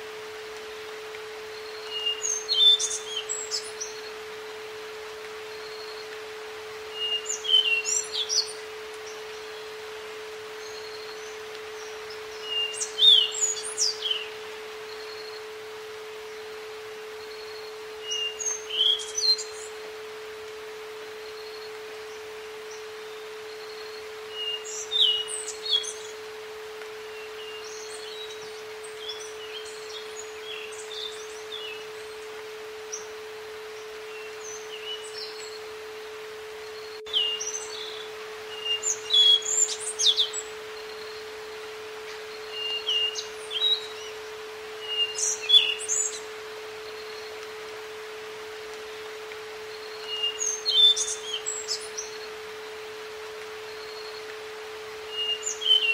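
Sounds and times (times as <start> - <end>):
outdoor hiss: 0.0 - 55.9
birds chirping: 0.8 - 26.4, 27.0 - 55.9.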